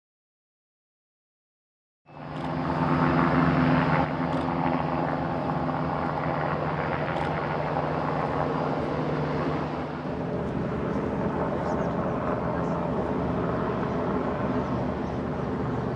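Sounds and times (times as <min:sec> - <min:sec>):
jet engines humming: 0:02.1 - 0:15.9.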